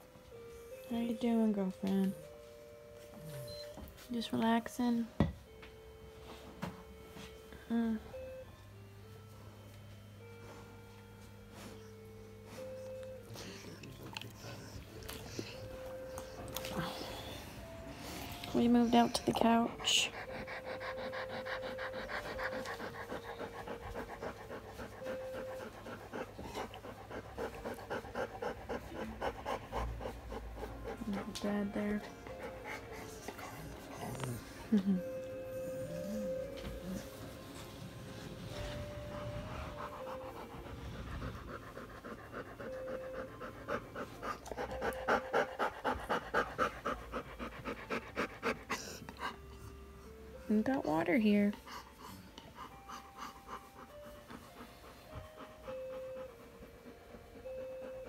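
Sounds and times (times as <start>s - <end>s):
dog panting fast: 11.5s - 58.0s.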